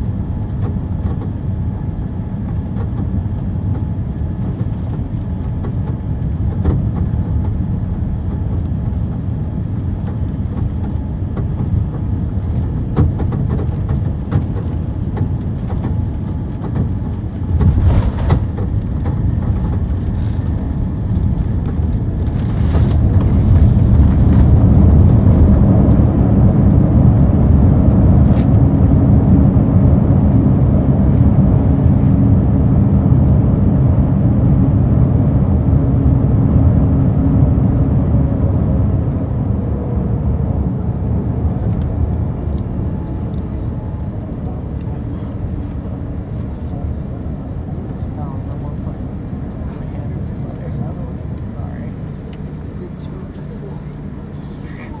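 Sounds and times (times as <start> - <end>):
jet cabin rumble: 0.0 - 55.0.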